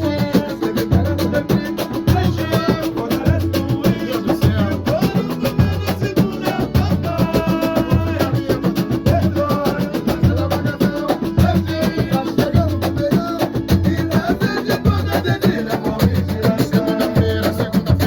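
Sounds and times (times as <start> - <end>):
deep bass beat: 0.0 - 18.0
percussion groove: 0.0 - 18.0.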